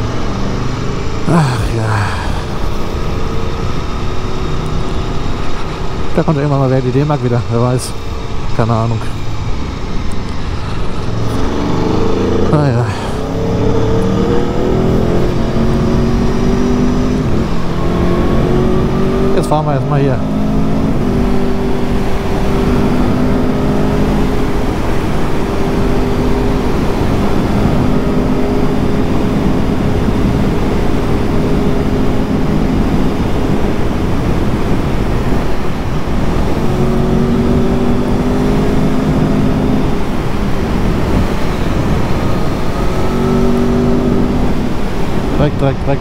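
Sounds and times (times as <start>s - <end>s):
motorcycle engine cruising: 0.0s - 46.0s
wind and road noise: 0.0s - 46.0s.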